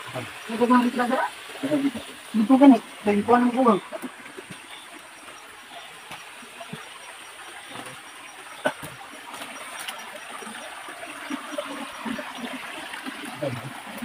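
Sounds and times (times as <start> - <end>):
creek water trickling: 0.0 - 14.0.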